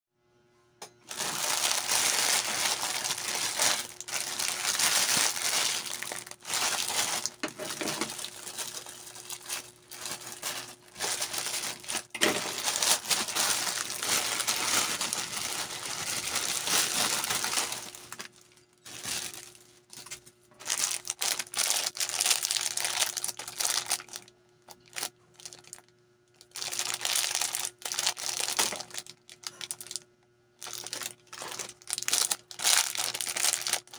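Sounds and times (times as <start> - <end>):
plastic wrappers crinkling: 1.1 - 33.9.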